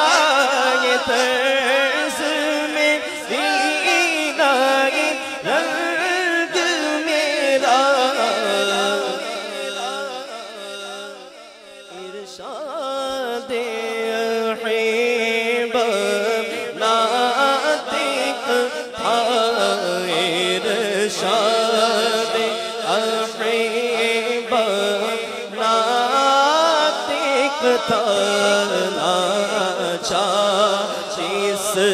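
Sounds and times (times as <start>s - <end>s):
man singing into microphone: 0.0s - 31.9s.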